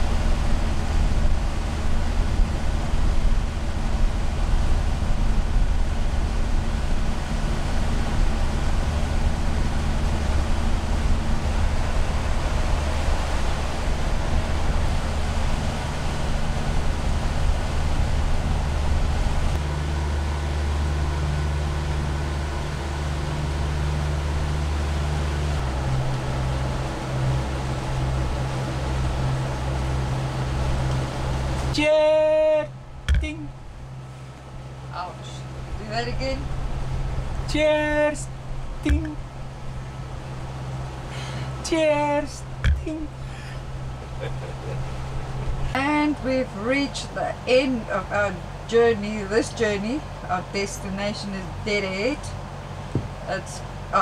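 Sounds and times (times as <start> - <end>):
diesel engine hum: 0.0 - 54.0
water noise: 0.0 - 54.0
wind: 0.0 - 54.0.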